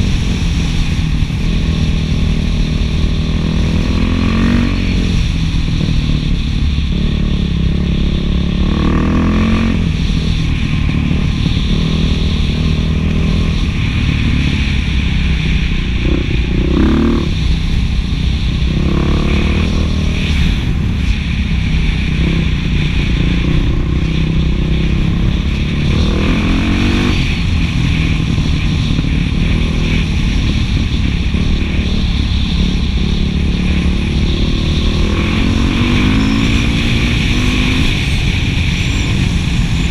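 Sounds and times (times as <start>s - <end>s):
dirt bike engine revving: 1.5s - 5.3s, 7.0s - 14.6s, 15.8s - 17.5s, 18.6s - 20.7s, 22.1s - 39.9s.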